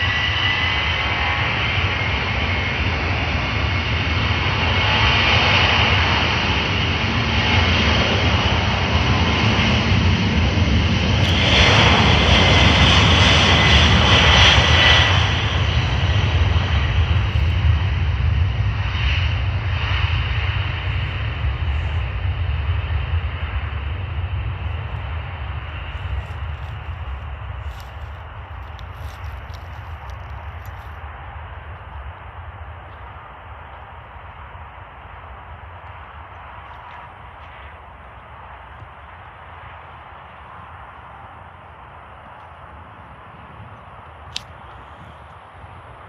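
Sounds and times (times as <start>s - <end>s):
jet engines roaring at takeoff: 0.0s - 46.0s.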